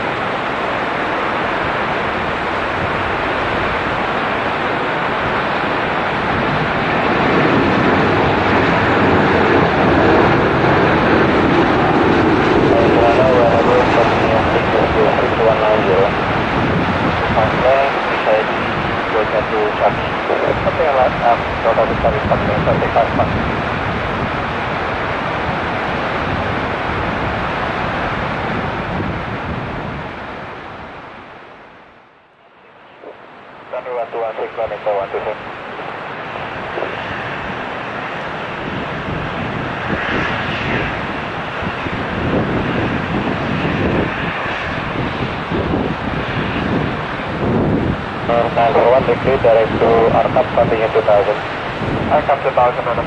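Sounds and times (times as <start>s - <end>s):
jet engines rushing: 0.0s - 53.0s.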